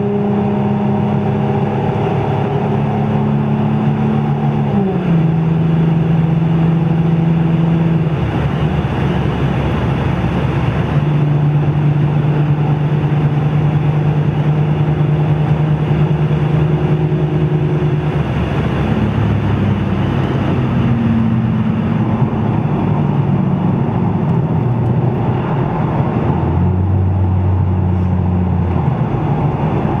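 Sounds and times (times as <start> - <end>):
car exhaust note while driving: 0.0 - 30.0.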